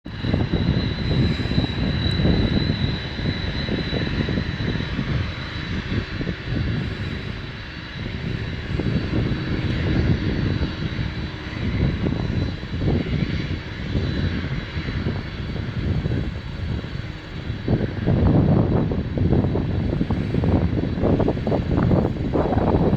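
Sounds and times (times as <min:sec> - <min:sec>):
jet engines rumbling: 0:00.0 - 0:22.9
high-pitched whine: 0:00.1 - 0:22.9.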